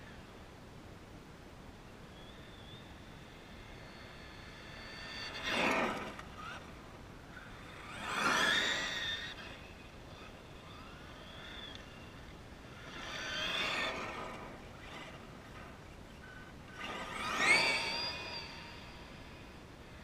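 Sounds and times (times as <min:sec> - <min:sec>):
electric motor whine: 0:02.2 - 0:20.0.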